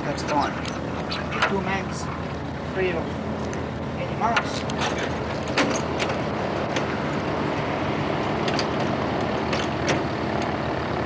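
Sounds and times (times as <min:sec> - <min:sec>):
steady background rumble: 0:00.0 - 0:11.0.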